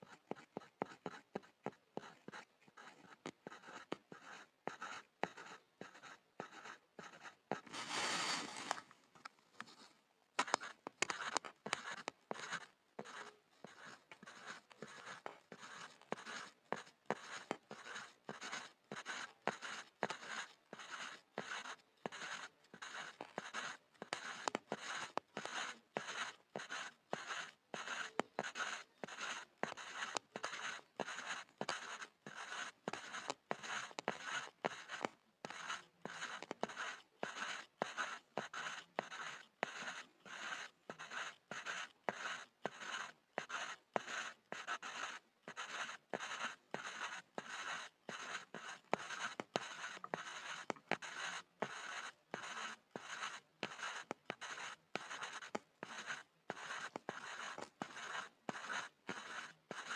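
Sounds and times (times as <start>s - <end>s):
pencil scribbling on board: 0.0s - 8.8s, 10.4s - 59.9s.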